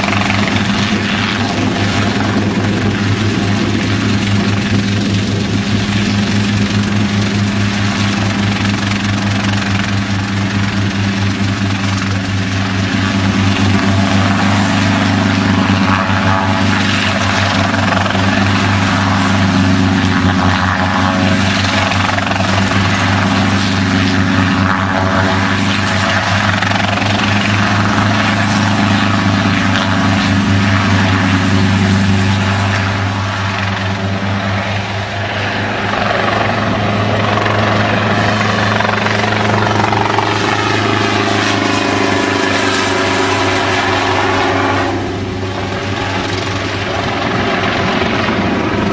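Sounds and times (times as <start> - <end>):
helicopter rotor chopping: 0.0 - 48.9.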